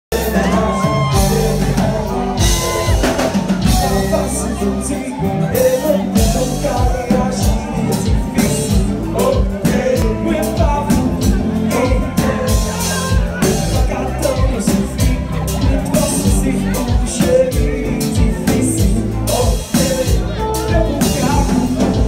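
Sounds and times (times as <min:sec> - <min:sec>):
bass: 0:00.0 - 0:22.0
band playing: 0:00.1 - 0:22.0
guitar: 0:00.1 - 0:22.0
person singing: 0:00.1 - 0:22.0
steady drum beat: 0:00.1 - 0:22.0.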